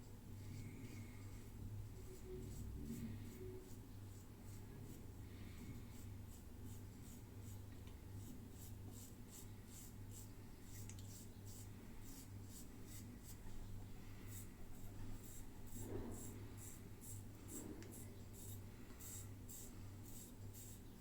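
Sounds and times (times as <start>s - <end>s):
faint low hum: 0.0s - 21.0s
soft scratchy strokes: 0.4s - 7.6s, 8.2s - 21.0s.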